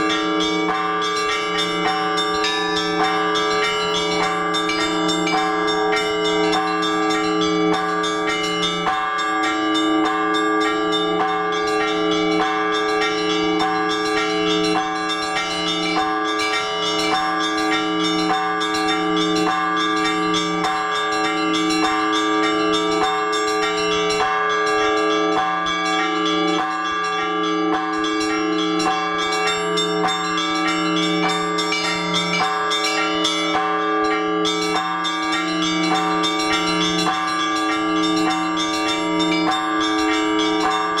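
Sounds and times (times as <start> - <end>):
church bells chiming: 0.0 - 41.0
large bells humming: 0.0 - 41.0.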